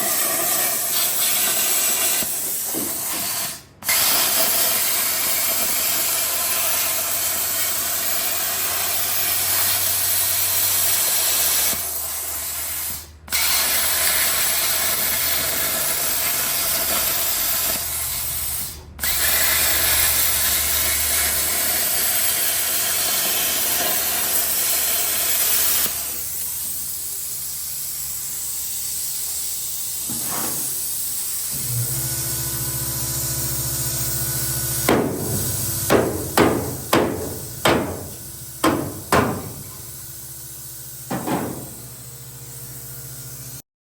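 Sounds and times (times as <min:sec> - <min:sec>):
metalworking tool hissing on steel: 0:00.0 - 0:31.6, 0:33.5 - 0:43.6.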